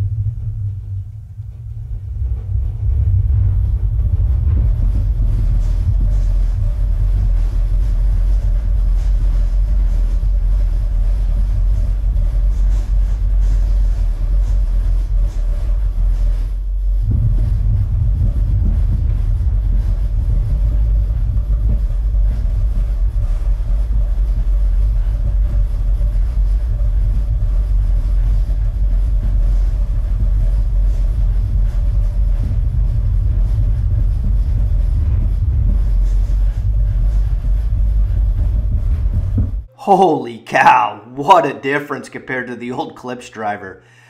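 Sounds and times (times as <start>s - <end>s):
deep bass rumble of soundtrack: 0.0s - 39.8s.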